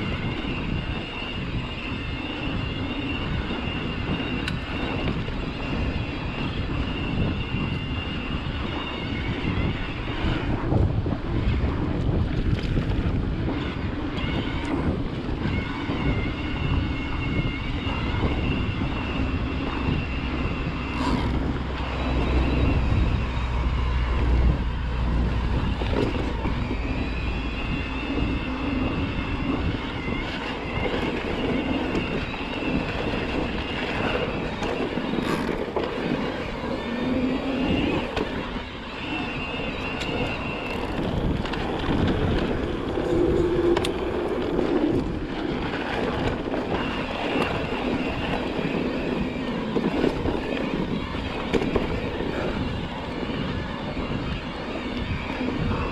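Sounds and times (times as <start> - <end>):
bike rattling over ground: 0.0 - 55.9
thin motor whine: 0.0 - 55.9
wind buffeting microphone: 0.0 - 55.9.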